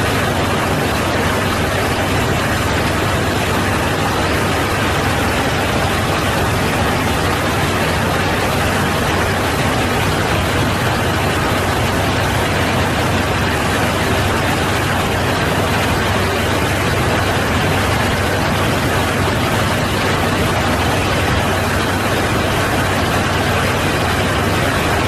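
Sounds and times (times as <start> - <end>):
airliner engines roaring: 0.0 - 25.0
constant low hum: 0.0 - 25.0.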